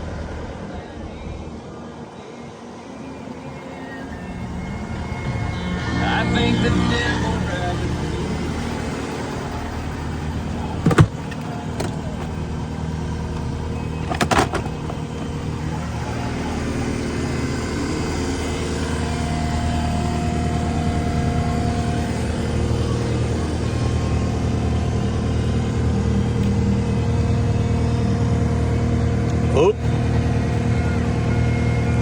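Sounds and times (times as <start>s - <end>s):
faint steady whine: 0.0s - 32.0s
diesel engine running: 2.9s - 32.0s.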